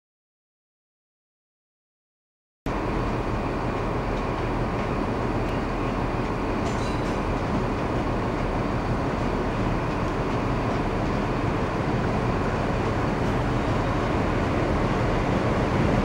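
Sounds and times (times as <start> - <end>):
train engine and wheels rumbling: 2.7 - 16.0.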